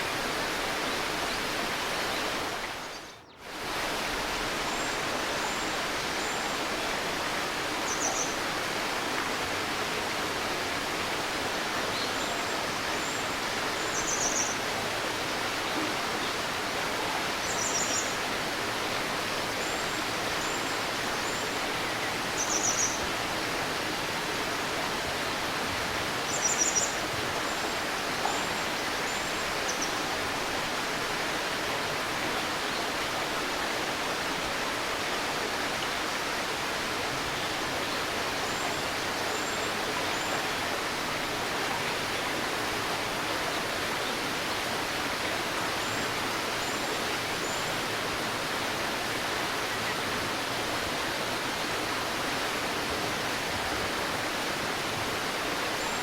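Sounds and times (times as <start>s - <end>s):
river running: 0.0s - 56.0s.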